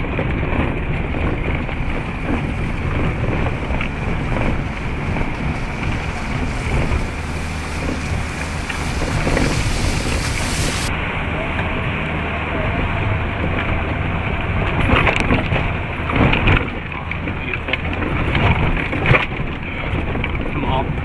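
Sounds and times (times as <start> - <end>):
diesel engine driving: 0.0 - 20.4
tyres through muddy puddles: 0.0 - 21.0
wind rumbling on microphone: 0.0 - 21.0.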